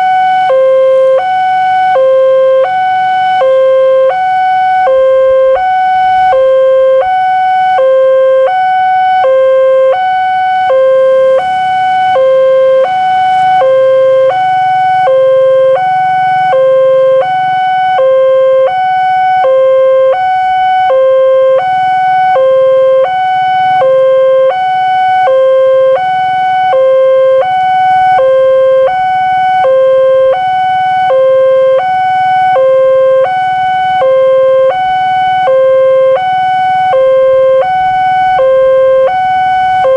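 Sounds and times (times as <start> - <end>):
two-tone crossing warning alarm: 0.0 - 39.9.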